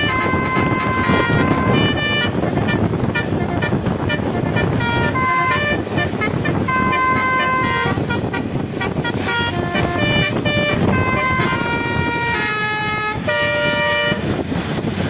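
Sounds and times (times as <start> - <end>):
musical bus horn notes: 0.0 - 14.6
bus engine and road noise: 0.0 - 15.0.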